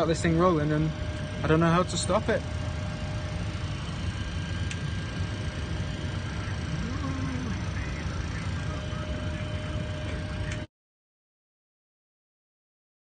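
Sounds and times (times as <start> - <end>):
low rumble of aircraft on ground: 0.0 - 10.7
thin steady whine: 0.0 - 10.7.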